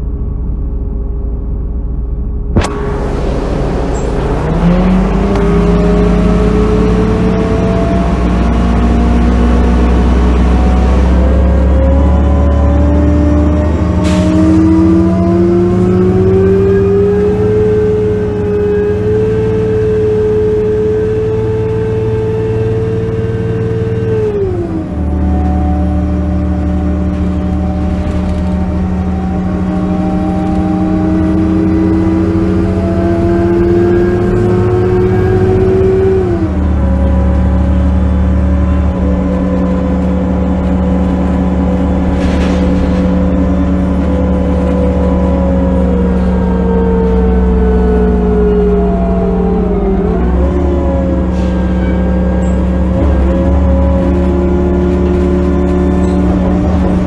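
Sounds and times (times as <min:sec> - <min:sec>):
bus engine drone: 0:00.0 - 0:57.0
drivetrain whine: 0:00.0 - 0:57.0.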